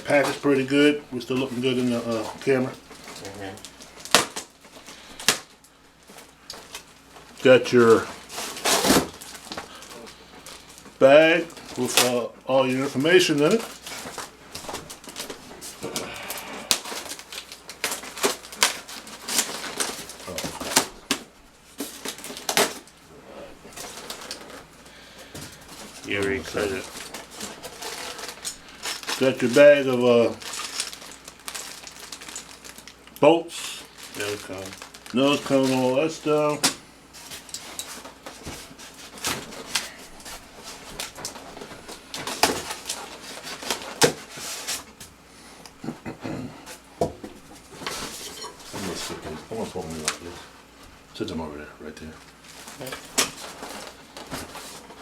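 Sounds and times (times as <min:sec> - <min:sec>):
plastic packaging crinkling: 0:00.0 - 0:45.1, 0:47.4 - 0:50.6, 0:51.9 - 0:55.0.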